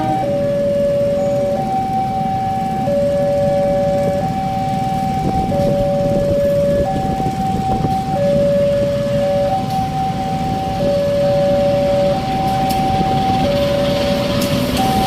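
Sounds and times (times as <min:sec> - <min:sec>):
two-tone warning siren: 0:00.0 - 0:15.0.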